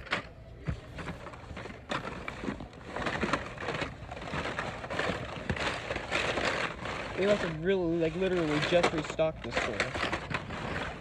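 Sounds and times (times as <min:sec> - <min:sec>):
blister packs rustling and clattering: 0:00.0 - 0:11.0.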